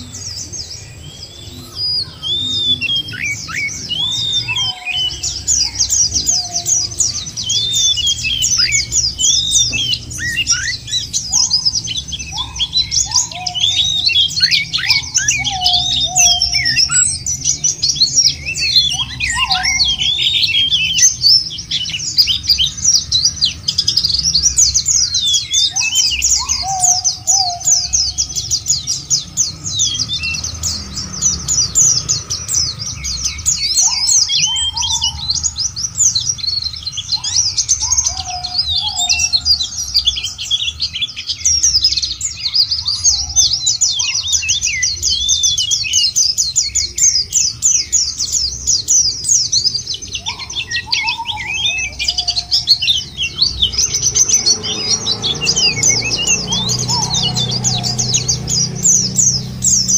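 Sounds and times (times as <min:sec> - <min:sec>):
birds twittering high-pitched: 0:00.0 - 0:59.9.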